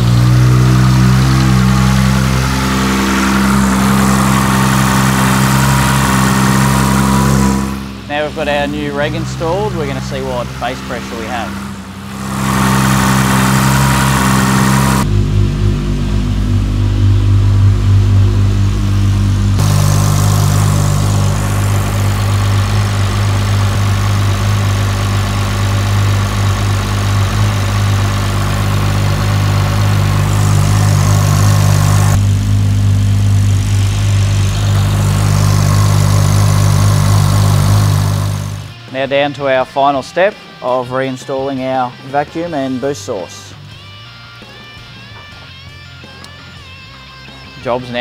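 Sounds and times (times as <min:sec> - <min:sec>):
car engine idling: 0:00.0 - 0:38.8.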